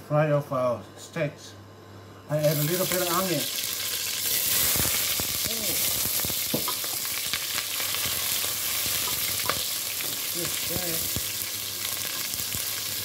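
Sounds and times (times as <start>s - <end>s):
onion sizzling in oil: 2.4s - 13.0s.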